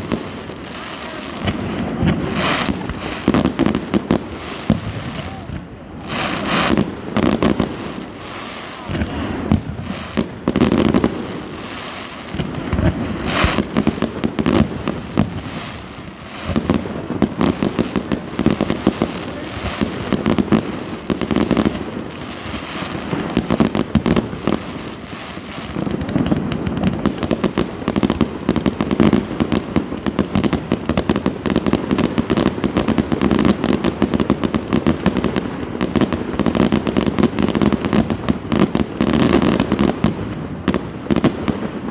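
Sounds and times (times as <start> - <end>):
fireworks cracking and banging: 0.0 - 41.9.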